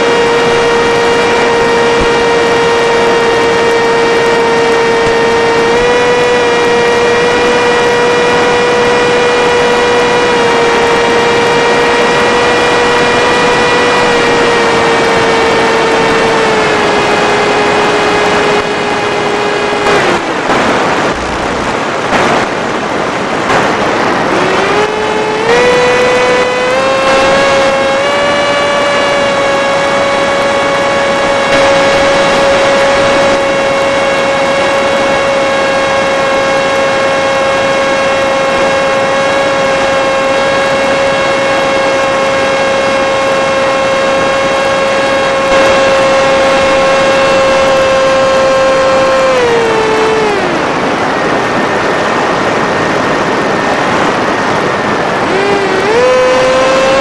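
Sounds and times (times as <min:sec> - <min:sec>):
electric motor and propeller whining: 0:00.0 - 0:57.0
rushing air noise: 0:00.0 - 0:57.0.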